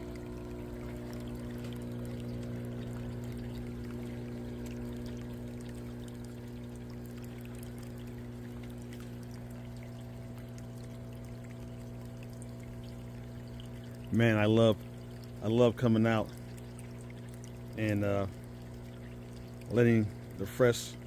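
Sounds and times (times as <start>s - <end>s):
pump humming: 0.0s - 21.0s
water pouring and splashing: 0.0s - 21.0s.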